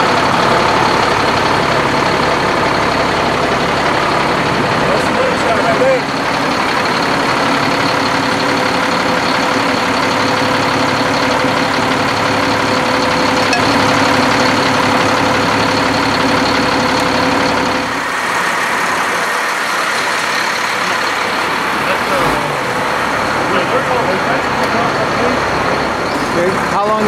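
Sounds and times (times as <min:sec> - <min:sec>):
truck engines idling: 0:00.0 - 0:27.0.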